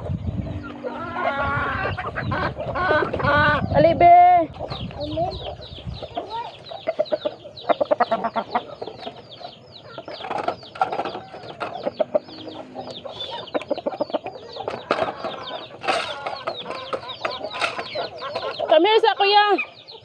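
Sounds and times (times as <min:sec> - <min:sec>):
chickens clucking: 0:00.0 - 0:20.0
chicks peeping: 0:00.0 - 0:20.0.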